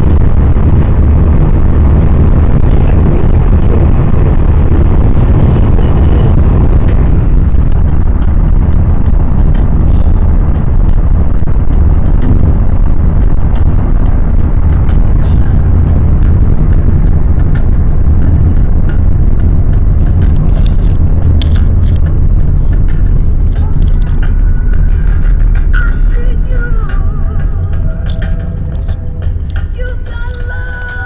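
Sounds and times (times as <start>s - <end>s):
vehicle rumbling: 0.0s - 31.0s.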